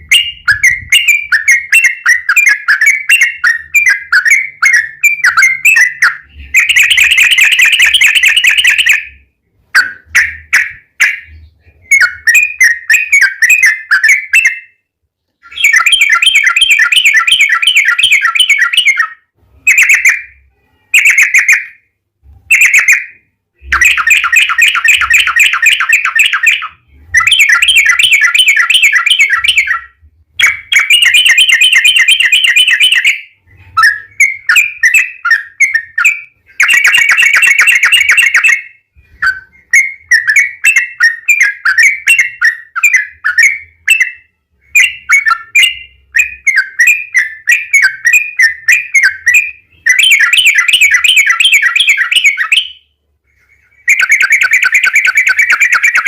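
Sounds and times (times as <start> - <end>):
bulbul singing: 0.0 - 21.9, 22.5 - 56.0.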